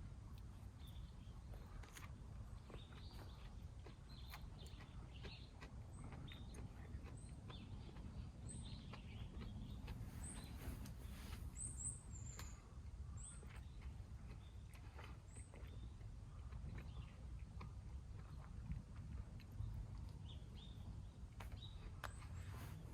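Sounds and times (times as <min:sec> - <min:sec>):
low outdoor rumble: 0:00.0 - 0:22.9
small birds chirping: 0:00.0 - 0:22.9.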